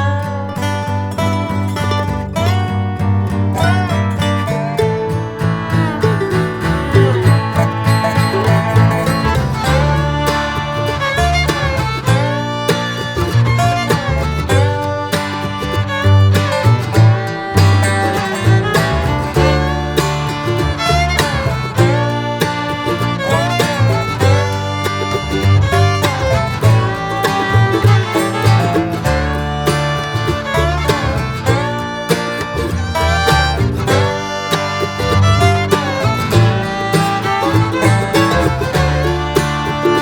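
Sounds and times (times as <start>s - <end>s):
fiddle: 0.0s - 40.0s
guitar: 0.0s - 40.0s.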